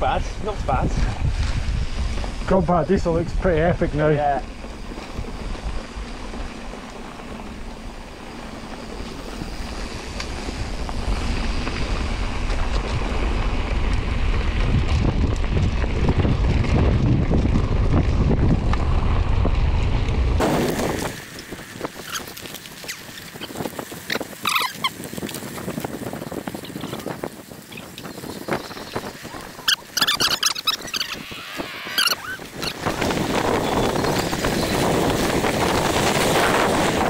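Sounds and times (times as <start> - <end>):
wind rushing over microphone: 0.0 - 37.0
bike clicks and rattles: 1.4 - 31.2.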